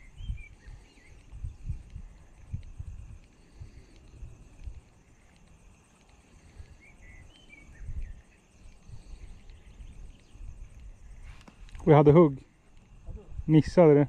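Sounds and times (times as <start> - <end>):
faint bird chirps: 0.0 - 11.7
low wind rumbling on microphone: 0.0 - 14.0.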